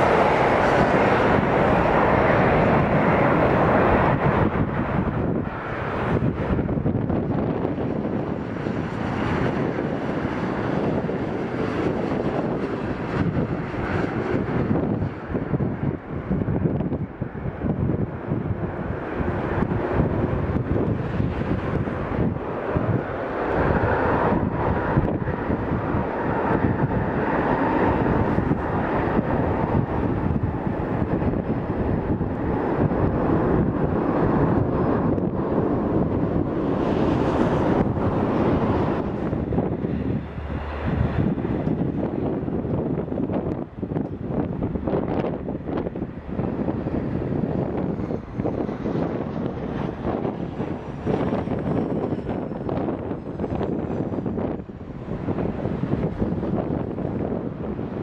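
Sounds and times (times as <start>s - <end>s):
jet engine rumble overhead: 0.0s - 58.0s
wind buffeting microphone: 0.0s - 58.0s.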